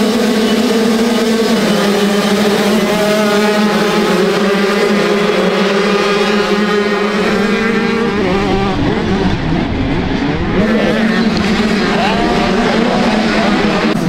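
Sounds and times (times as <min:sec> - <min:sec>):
motocross bike engine running: 0:00.0 - 0:14.0.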